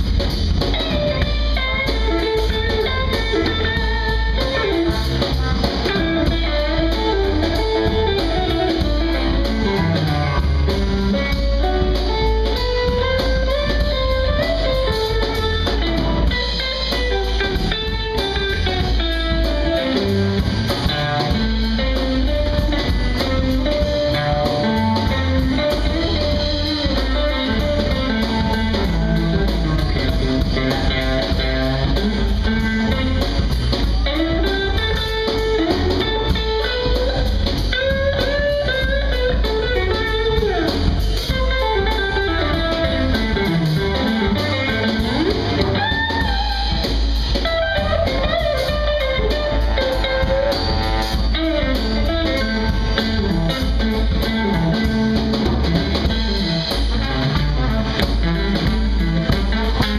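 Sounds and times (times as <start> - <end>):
electric guitar lead line: 0.0 - 59.9
live blues-funk band: 0.0 - 59.9.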